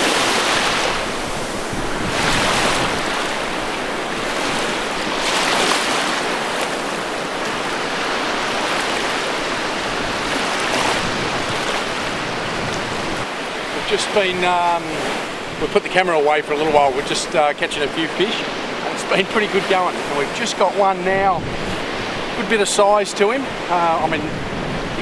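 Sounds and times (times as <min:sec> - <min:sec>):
waves washing over sand: 0:00.0 - 0:25.0
wind: 0:00.0 - 0:25.0.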